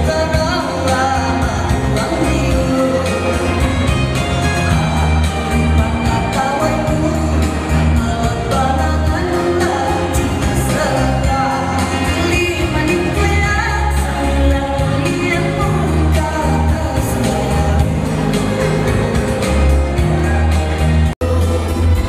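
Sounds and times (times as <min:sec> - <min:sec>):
pop song with singing: 0:00.0 - 0:22.0.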